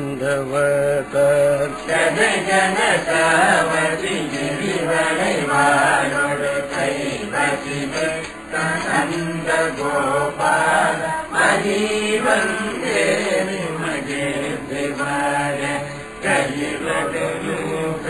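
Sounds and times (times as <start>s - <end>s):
devotional hymn chanted: 0.0s - 18.0s.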